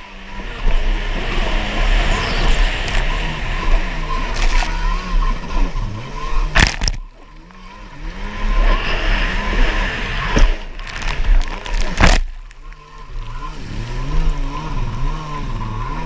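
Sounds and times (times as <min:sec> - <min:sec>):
watercraft engine revving: 0:00.0 - 0:16.0
wind and spray rushing: 0:00.5 - 0:07.2, 0:08.0 - 0:14.9.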